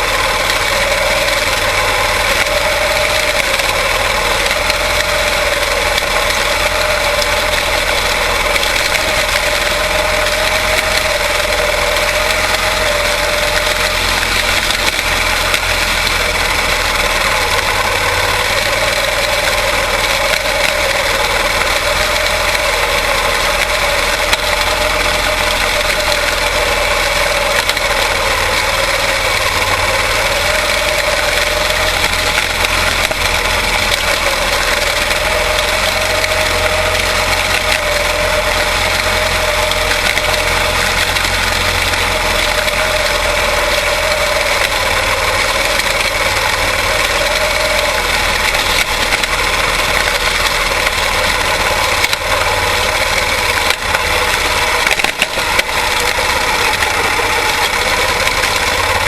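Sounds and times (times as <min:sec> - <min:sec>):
small race car engines droning: 0:00.0 - 0:59.0.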